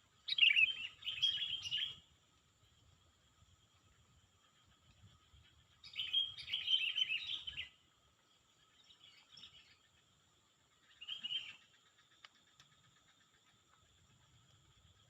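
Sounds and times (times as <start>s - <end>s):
bird chirping: 0.1s - 2.1s, 3.8s - 15.0s.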